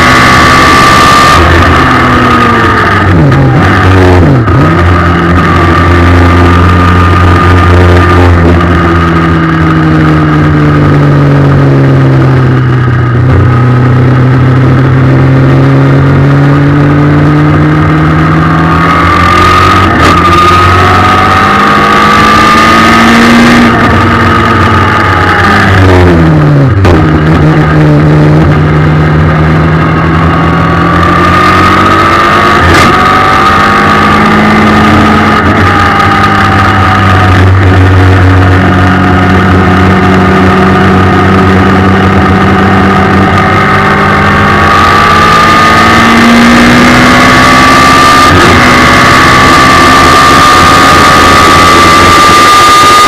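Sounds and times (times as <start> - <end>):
racing car engine: 0.0 - 53.0.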